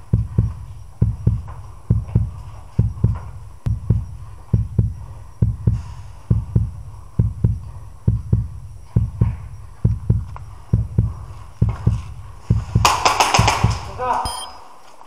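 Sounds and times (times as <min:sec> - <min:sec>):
heartbeat thumping: 0:00.0 - 0:14.1.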